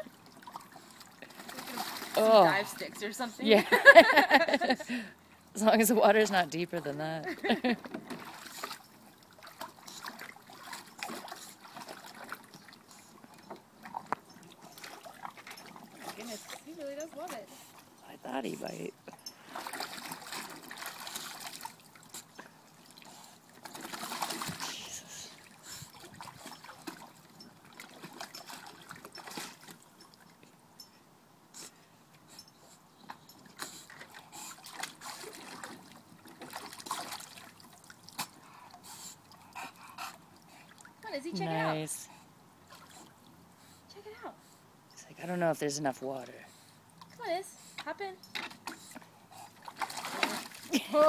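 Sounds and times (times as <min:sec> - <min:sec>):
water trickling and splashing: 0:00.0 - 0:31.0, 0:32.1 - 0:51.0.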